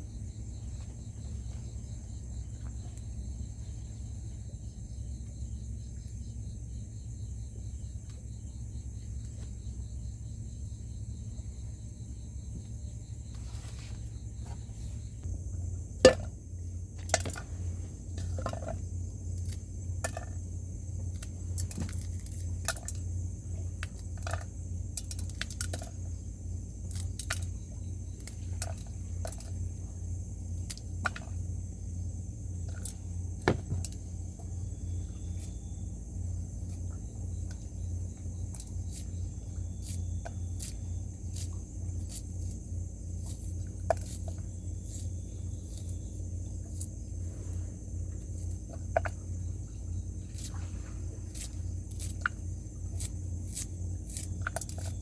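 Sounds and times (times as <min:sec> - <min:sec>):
forest insects droning: 0:00.0 - 0:55.0
pulsing insect chirp: 0:00.0 - 0:55.0.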